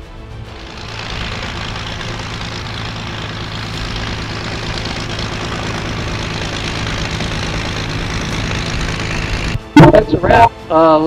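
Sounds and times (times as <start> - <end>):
propeller aircraft engine running: 0.0 - 10.6.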